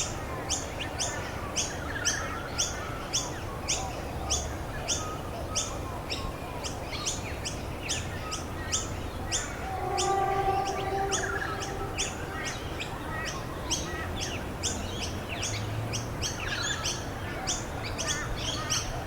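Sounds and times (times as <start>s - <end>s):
low steady bird call: 0.4s - 19.0s.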